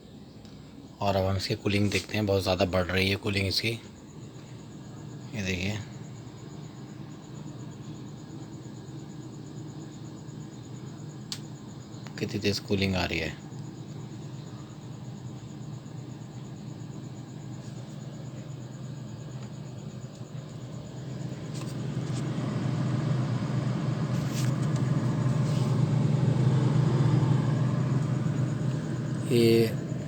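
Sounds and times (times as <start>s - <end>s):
refrigerator humming: 0.0s - 30.0s.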